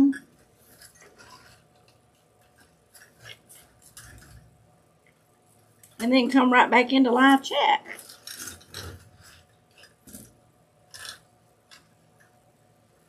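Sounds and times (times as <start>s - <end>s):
metal wire clicks and rustles: 0.1s - 6.0s, 7.9s - 12.4s.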